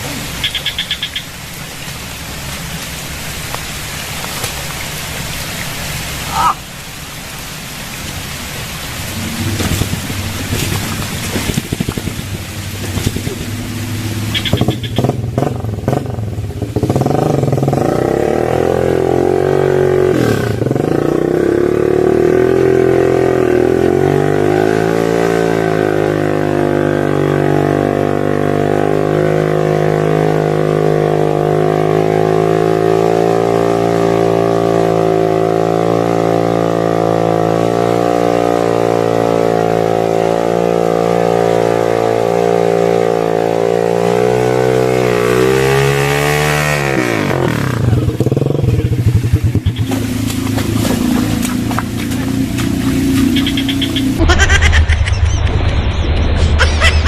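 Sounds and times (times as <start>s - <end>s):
motorcycle engine at high revs: 8.3s - 54.2s.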